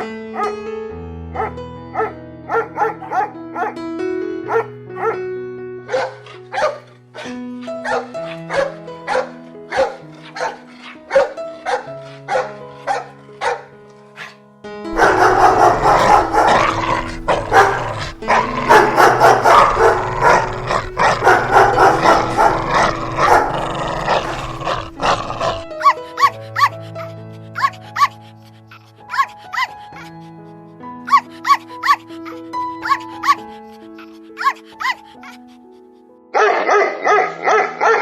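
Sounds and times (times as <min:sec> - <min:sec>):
dogs barking: 0:00.0 - 0:00.6, 0:01.4 - 0:03.8, 0:04.4 - 0:05.2, 0:05.9 - 0:14.4, 0:15.0 - 0:28.4, 0:29.0 - 0:30.1, 0:31.1 - 0:35.6, 0:36.4 - 0:38.0
background music: 0:00.0 - 0:38.0.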